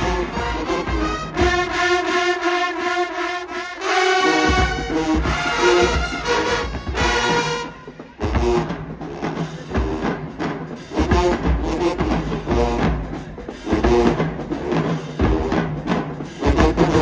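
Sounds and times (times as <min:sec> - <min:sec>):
marching band brass: 0:00.0 - 0:17.0.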